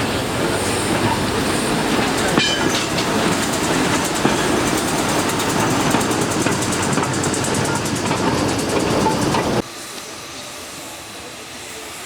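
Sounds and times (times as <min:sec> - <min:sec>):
steam train passing: 0:00.0 - 0:12.0.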